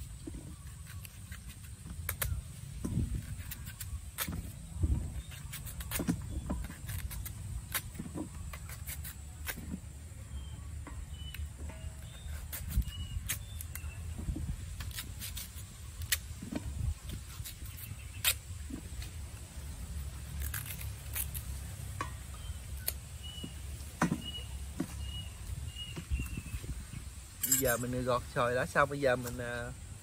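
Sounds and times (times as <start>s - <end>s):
knife peeling a mango: 0.0s - 27.0s.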